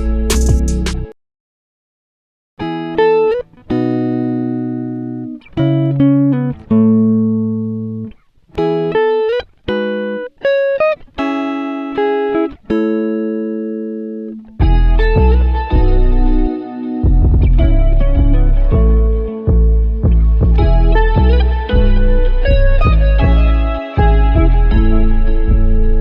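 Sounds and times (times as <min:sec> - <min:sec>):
plucked guitar-like melody: 0:00.0 - 0:01.2, 0:02.6 - 0:26.0.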